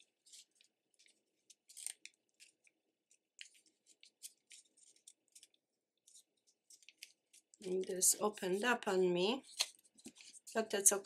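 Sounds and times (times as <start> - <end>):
paper wrapper crinkling: 0.0 - 10.7.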